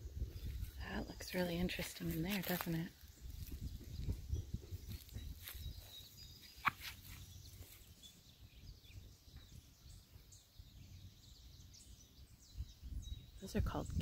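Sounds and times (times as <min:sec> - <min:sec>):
low wind rumble: 0:00.0 - 0:14.0
faint bird chirps: 0:02.4 - 0:14.0.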